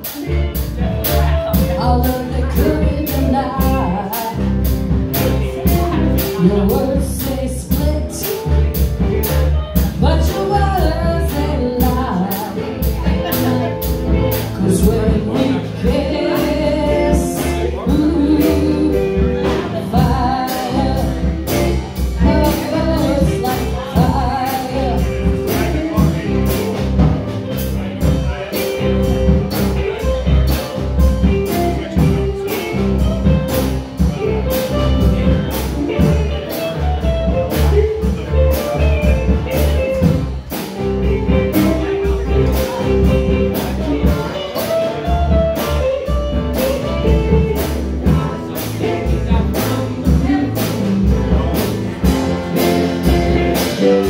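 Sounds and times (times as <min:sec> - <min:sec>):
bass guitar: 0:00.0 - 0:54.0
drums: 0:00.0 - 0:54.0
electric guitars: 0:00.0 - 0:54.0
person singing: 0:00.0 - 0:54.0.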